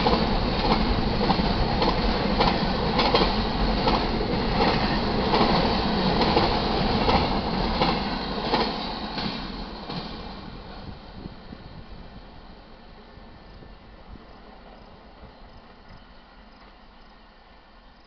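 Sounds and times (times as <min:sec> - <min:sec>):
train rumble: 0:00.0 - 0:17.7.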